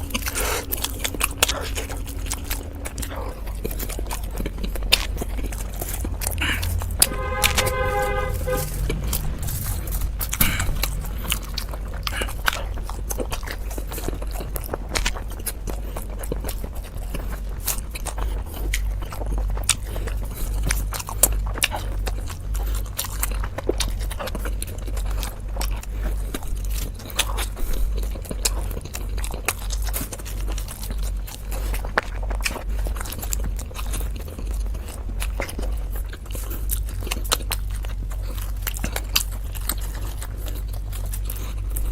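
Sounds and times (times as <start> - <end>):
chewing with wet mouth clicks: 0.0 - 7.0, 10.7 - 41.9.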